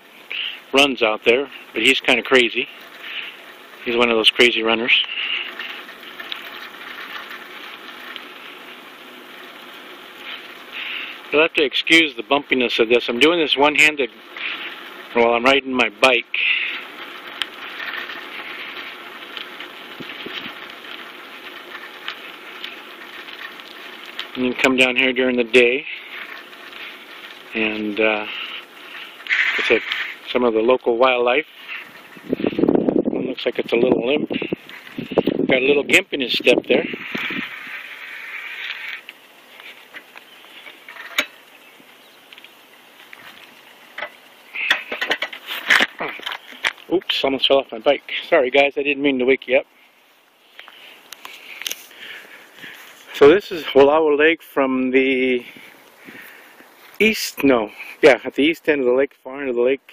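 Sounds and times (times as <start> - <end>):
bicycle tyres rolling on asphalt: 0.0 - 59.9
bicycle clicks and ticks: 0.1 - 47.4, 49.7 - 53.2.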